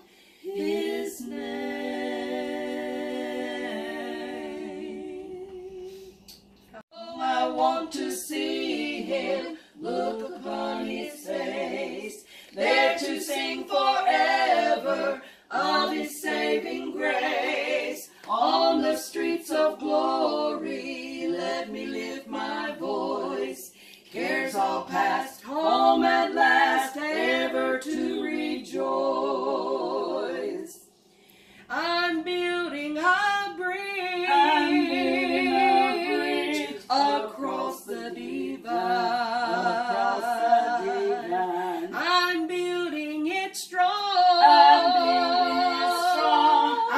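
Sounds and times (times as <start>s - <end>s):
women singing unaccompanied: 0.4s - 6.1s, 6.8s - 30.9s, 31.7s - 46.9s.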